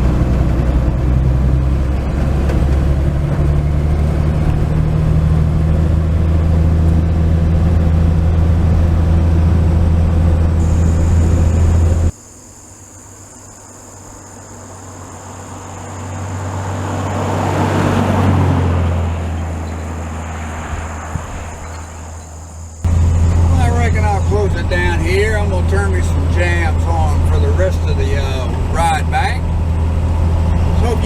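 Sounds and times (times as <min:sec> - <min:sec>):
truck engine cruising: 0:00.0 - 0:12.2, 0:13.6 - 0:31.0
road noise inside cab: 0:00.0 - 0:31.0.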